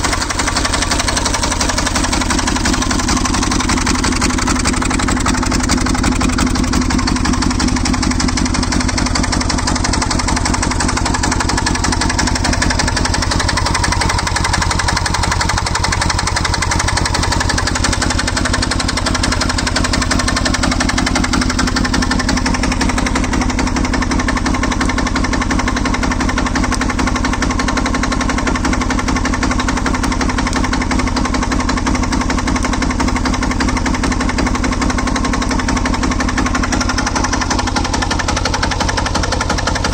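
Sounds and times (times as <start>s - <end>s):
diesel motorcycle engine running: 0.0s - 39.9s.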